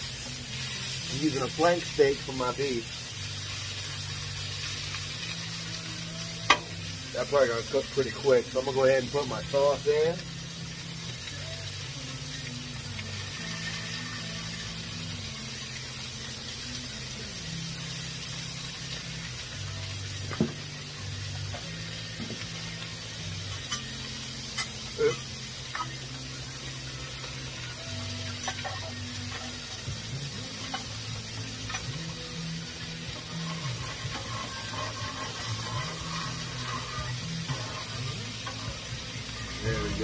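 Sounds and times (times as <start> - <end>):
steak sizzling on griddle: 0.0 - 40.0.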